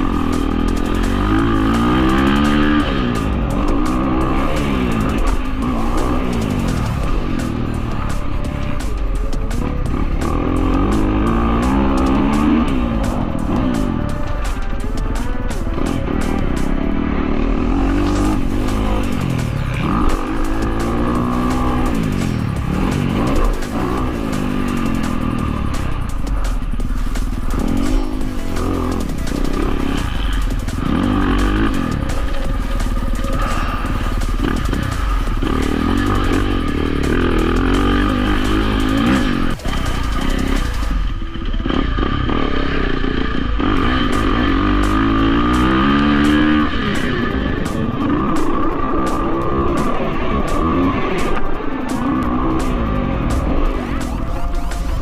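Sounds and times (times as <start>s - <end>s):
dirt bike engine revving: 0.0s - 55.0s
guitar music with steady beat: 0.0s - 55.0s.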